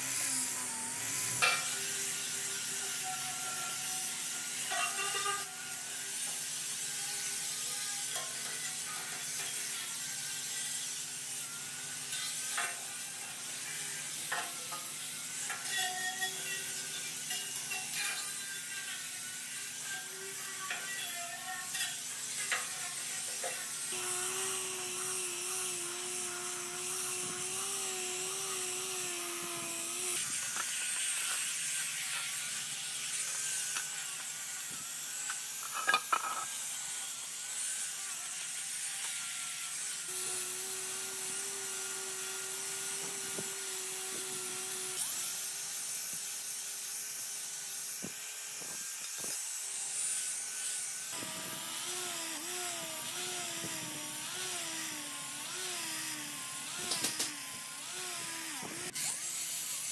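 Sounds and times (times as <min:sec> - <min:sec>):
power tool motor humming: 0:00.0 - 0:59.9
workshop scraping and hiss: 0:00.0 - 0:59.9.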